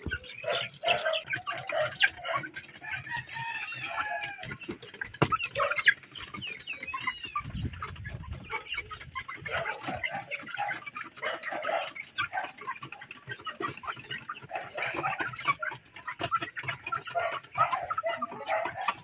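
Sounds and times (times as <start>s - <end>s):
hens clucking and squawking: 0.0s - 19.0s.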